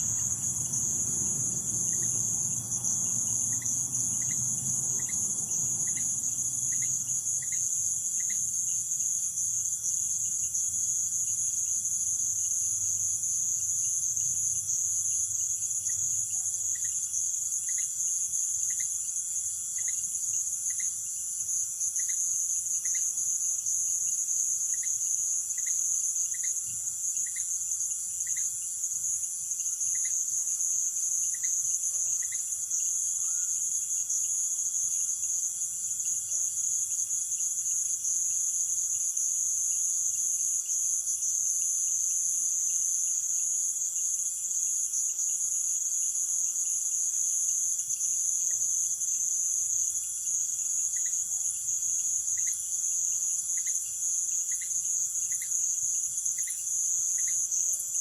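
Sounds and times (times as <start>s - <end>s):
insects shrill trilling: 0.0s - 58.0s.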